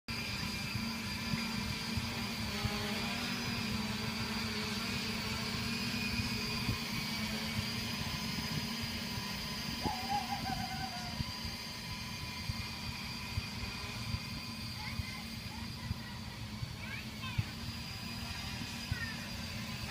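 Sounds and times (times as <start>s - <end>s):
drone propellers humming: 0.1s - 19.9s
mid-pitched hum: 0.1s - 19.9s.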